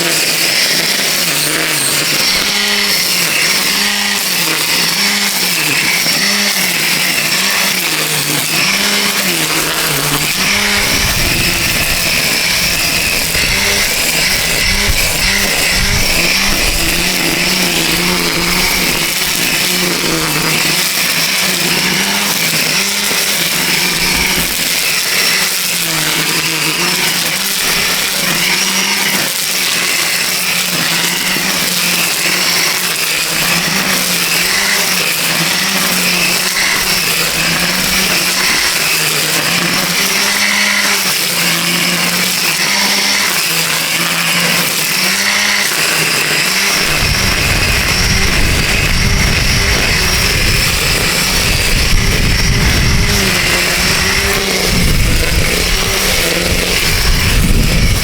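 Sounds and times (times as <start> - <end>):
string trimmer cutting grass: 0.0 - 58.0.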